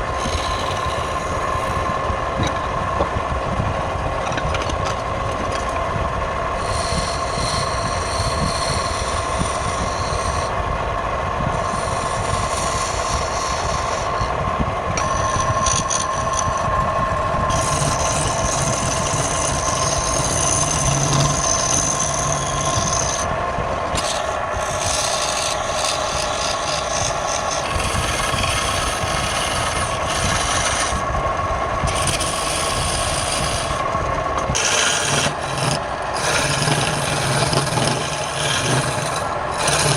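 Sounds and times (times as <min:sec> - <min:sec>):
tool scraping spinning wood: 0:00.0 - 0:10.6, 0:11.4 - 0:39.9
lathe motor whine: 0:00.0 - 0:39.9.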